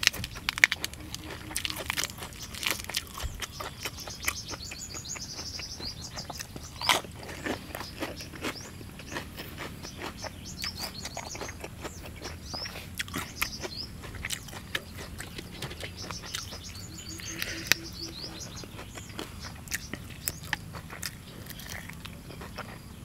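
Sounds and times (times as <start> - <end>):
bird chirping: 0.0 - 23.0
crunchy chewing: 0.0 - 23.0.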